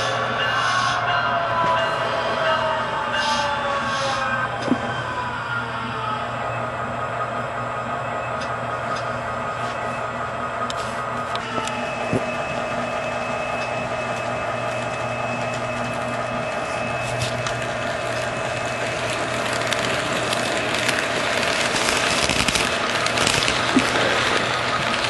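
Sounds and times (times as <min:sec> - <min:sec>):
model train electric hum: 0:00.0 - 0:25.0
wheels rattling on rails: 0:00.0 - 0:25.0.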